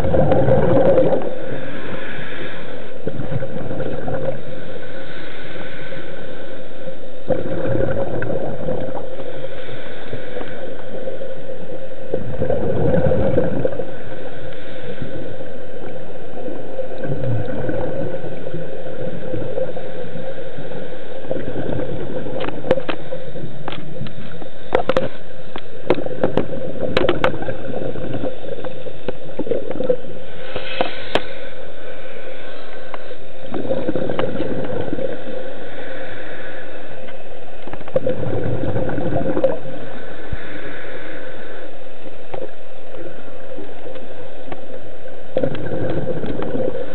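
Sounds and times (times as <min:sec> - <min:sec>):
exhaled bubbles gurgling underwater: 0:00.0 - 0:46.9
steady hum: 0:00.0 - 0:46.9.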